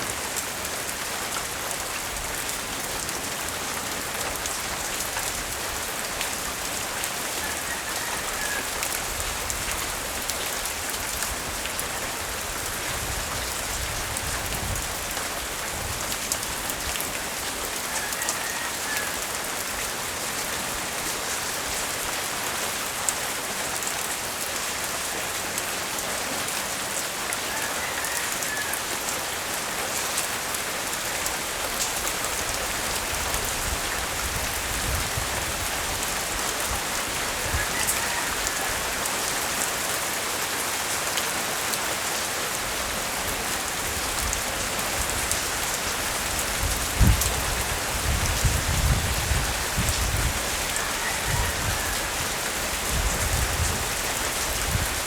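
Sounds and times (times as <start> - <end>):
light rain falling: 0.0 - 55.0.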